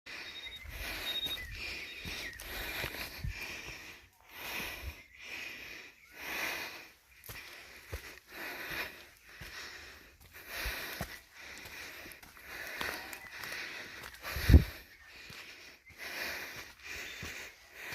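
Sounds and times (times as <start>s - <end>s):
person panting: 0.1s - 17.9s.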